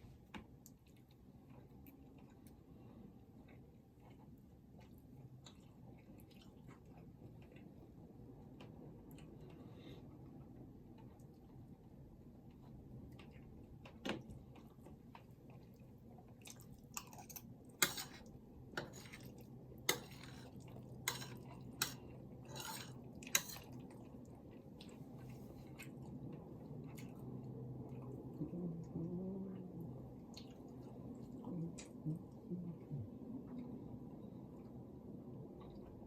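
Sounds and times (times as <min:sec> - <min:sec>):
steady low hum: 0:00.0 - 0:36.0
chewing: 0:00.6 - 0:11.5, 0:12.4 - 0:34.8.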